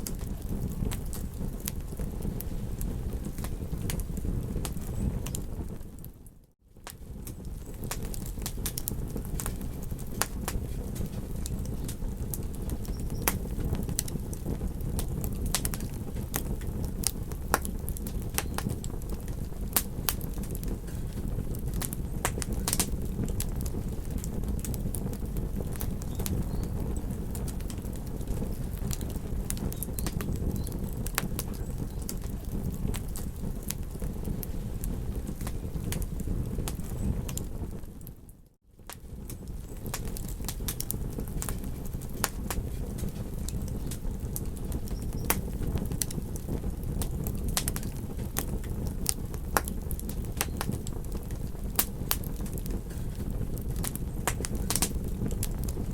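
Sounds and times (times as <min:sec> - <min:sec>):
campfire wood crackling: 0:00.0 - 0:55.9.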